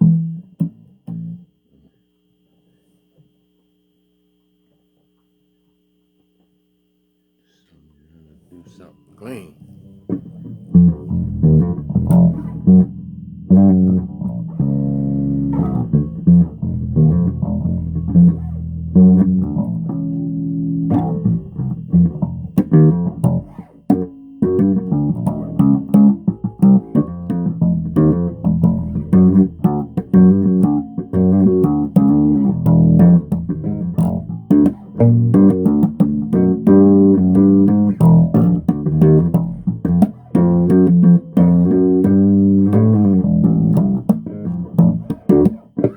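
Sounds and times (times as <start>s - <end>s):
solo bass guitar: 0.0s - 1.9s, 9.6s - 45.9s.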